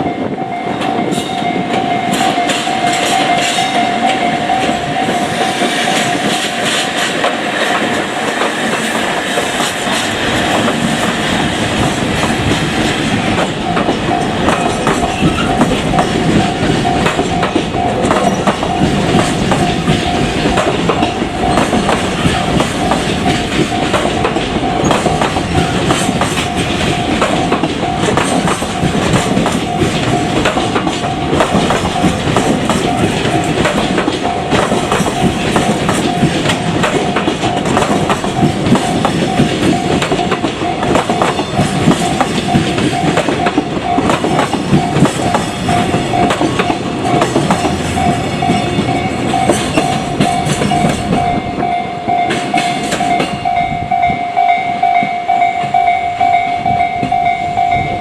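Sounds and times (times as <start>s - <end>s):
level crossing alarm ringing: 0.0s - 58.0s
train wagons clacking over rails: 0.0s - 58.0s.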